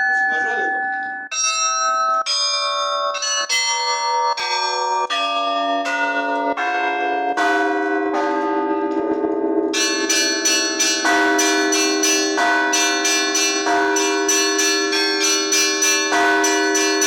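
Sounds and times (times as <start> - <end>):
church bells ringing: 0.0 - 17.0
deep bell: 0.0 - 17.0.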